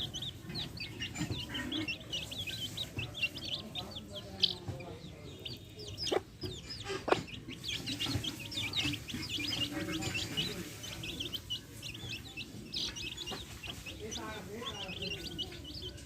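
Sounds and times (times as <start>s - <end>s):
chicks peeping: 0.0s - 16.0s
hens clucking: 0.0s - 16.0s.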